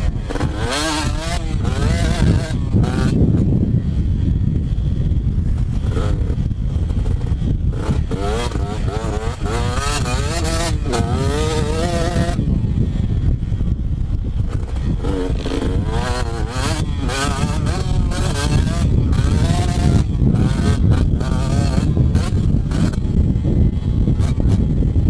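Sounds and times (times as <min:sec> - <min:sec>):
low rumble: 0:00.0 - 0:25.0
motocross bike engine revving: 0:00.0 - 0:25.0.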